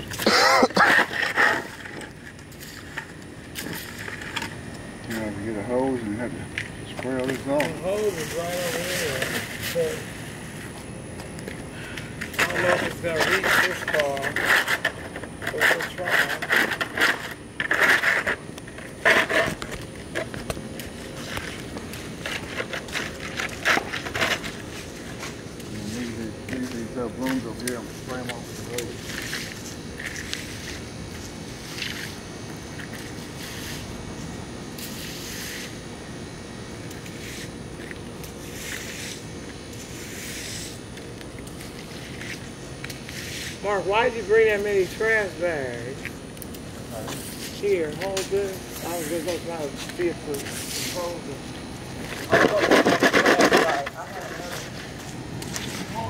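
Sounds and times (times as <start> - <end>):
broom sweeping asphalt: 7.2 - 10.7, 12.2 - 35.9, 36.7 - 46.0, 46.8 - 56.0.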